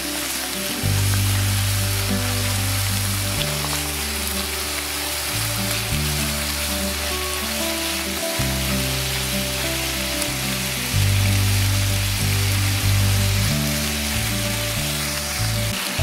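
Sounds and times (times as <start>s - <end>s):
background music with bass notes: 0.0s - 16.0s
pork sizzling in a frying pan: 0.0s - 16.0s.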